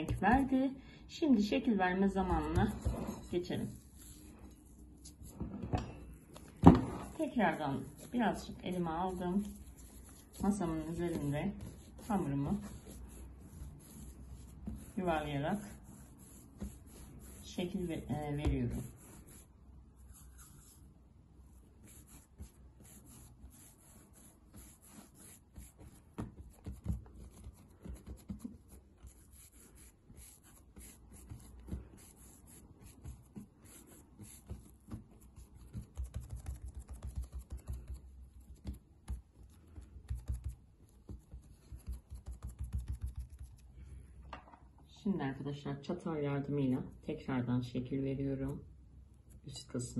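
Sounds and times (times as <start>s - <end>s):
hands rolling dough on countertop: 0.0s - 0.6s, 2.1s - 20.9s, 21.5s - 43.7s.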